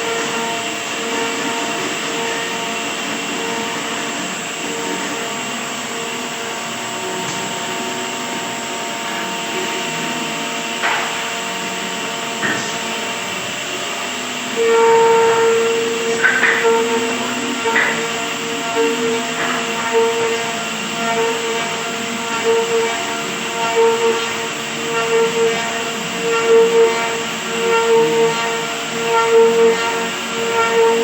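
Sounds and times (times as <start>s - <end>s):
woodworking machine humming: 0.0s - 31.0s.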